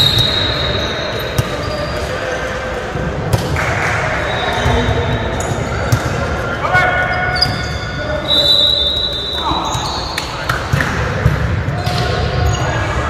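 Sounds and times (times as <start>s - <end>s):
echoing chatter of players: 0.0s - 13.0s.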